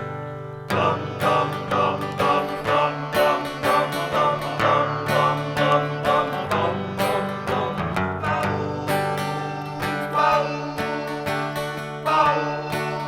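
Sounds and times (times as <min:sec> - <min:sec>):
instrumental rock guitar: 0:00.0 - 0:13.0.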